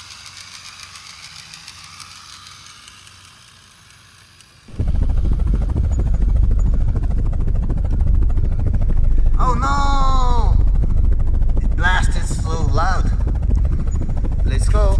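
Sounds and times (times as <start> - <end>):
faint airy whirr: 0.0 - 14.9
helicopter rotor rumble: 0.0 - 14.9.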